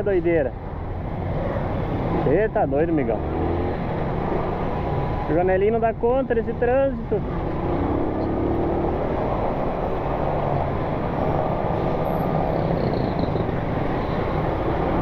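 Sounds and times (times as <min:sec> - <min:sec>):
motorcycle and car engines: 0:00.0 - 0:15.0.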